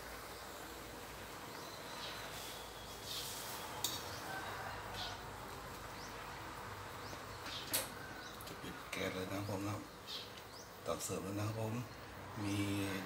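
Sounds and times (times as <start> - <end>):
background hiss: 0.0 - 13.0
small bird chirping: 1.4 - 13.0.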